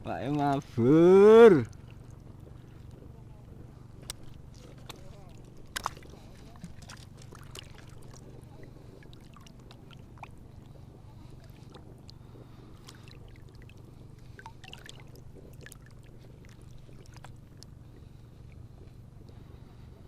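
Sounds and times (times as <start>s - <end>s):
low steady hum: 0.0s - 20.0s
water lapping and splashing: 0.0s - 20.0s.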